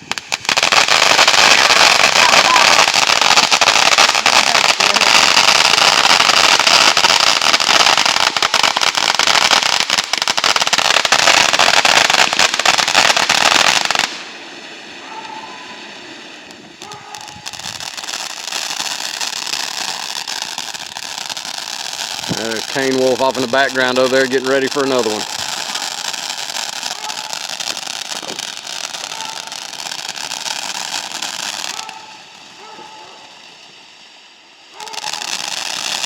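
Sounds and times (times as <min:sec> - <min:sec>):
firework crackling and popping: 0:00.0 - 0:36.0.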